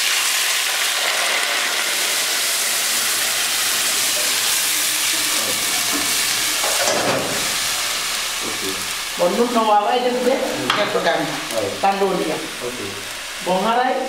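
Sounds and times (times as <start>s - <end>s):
chicken sizzling in pot: 0.0s - 14.0s.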